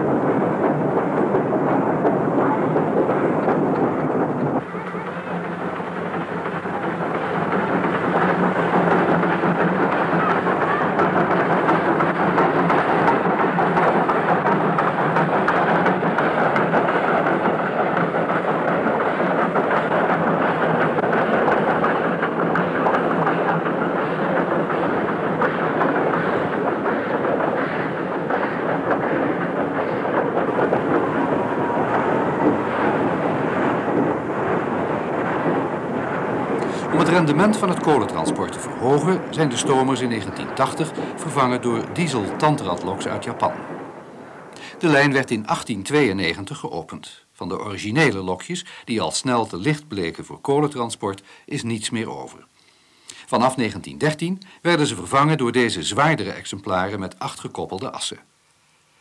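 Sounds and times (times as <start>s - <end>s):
steam locomotive exhaust rush: 0.0s - 59.0s.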